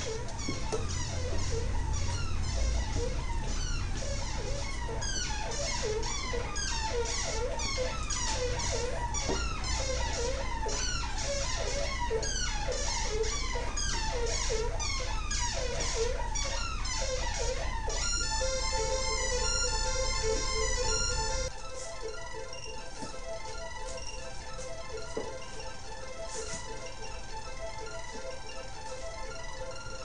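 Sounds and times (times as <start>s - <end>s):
beeping synth sequence: 0.0s - 30.0s
low synth drone: 0.0s - 30.0s
synthesizer pitch glides: 0.0s - 30.0s.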